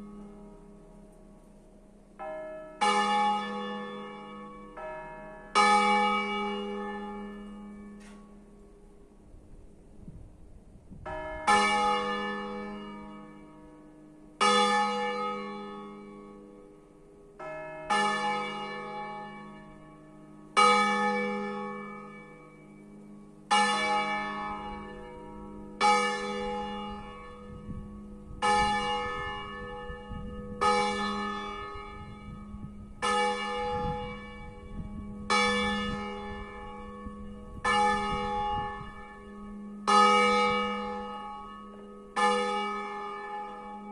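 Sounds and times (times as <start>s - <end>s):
swinging church bells ringing: 0.0s - 9.3s, 10.9s - 43.9s.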